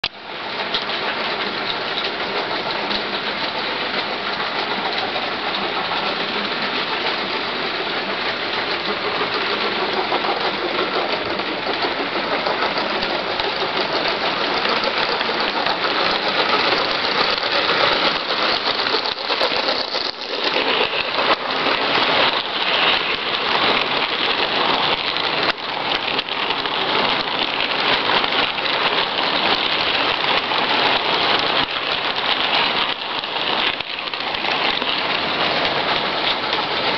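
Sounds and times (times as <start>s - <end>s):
model train wheels clattering: 0.0s - 36.9s.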